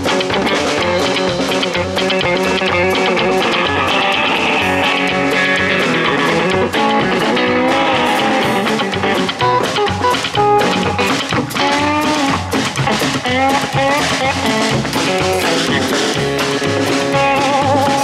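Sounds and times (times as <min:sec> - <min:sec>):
guitar-led music with beat: 0:00.0 - 0:18.0.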